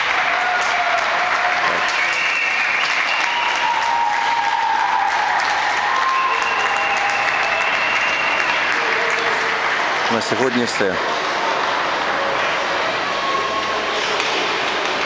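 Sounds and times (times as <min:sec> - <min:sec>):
spectators applauding: 0:00.0 - 0:15.0.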